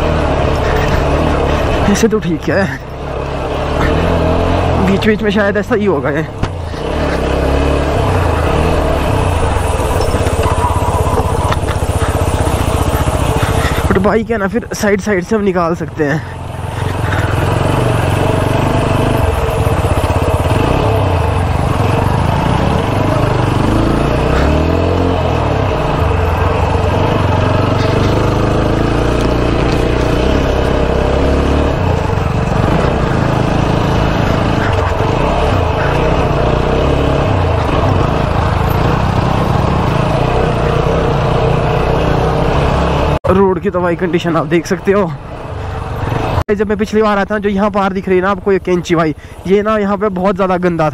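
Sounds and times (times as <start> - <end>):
motorcycle engine at low revs: 0.0 - 50.9
riding noise: 0.0 - 50.9.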